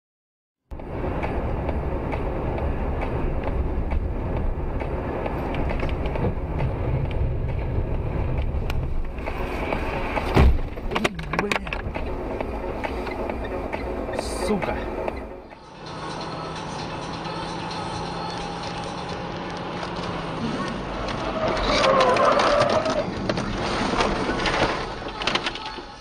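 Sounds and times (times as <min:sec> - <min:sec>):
car road and engine noise: 0:00.7 - 0:26.0.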